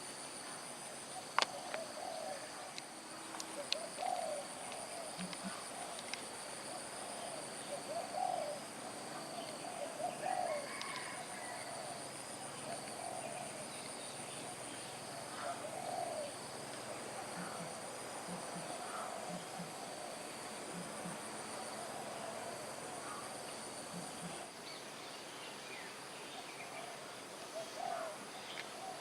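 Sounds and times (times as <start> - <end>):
birds cooing: 1.2 - 2.7, 3.5 - 24.5, 27.6 - 29.0.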